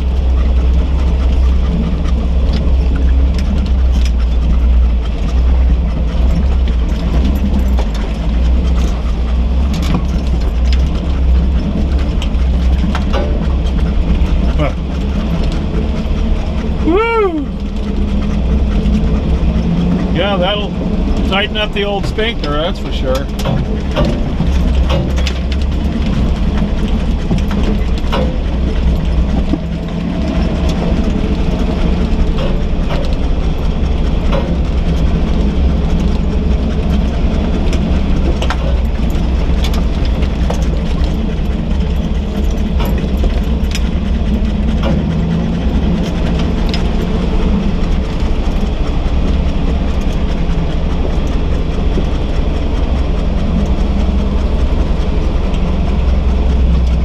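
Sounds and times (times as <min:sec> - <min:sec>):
body rattles: 0:00.0 - 0:57.0
rocks clicking under tyres: 0:00.0 - 0:57.0
truck engine rumble: 0:00.0 - 0:57.0.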